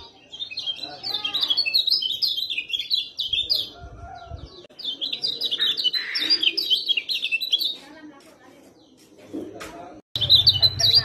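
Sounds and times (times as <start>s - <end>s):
bird twittering high chirps: 0.0s - 8.0s, 10.1s - 11.0s.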